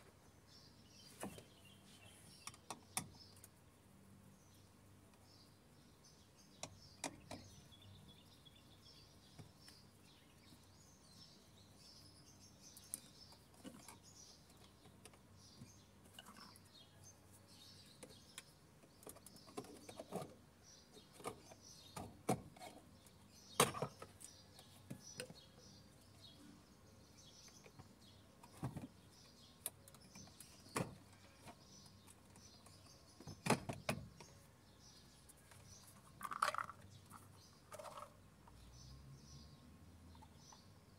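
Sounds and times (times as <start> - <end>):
birds chirping faintly: 0.0 - 40.9.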